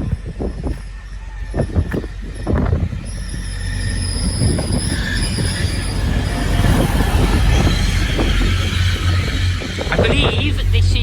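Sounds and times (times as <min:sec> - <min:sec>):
train rumble: 0:00.0 - 0:11.0
train brakes squealing: 0:00.8 - 0:11.0.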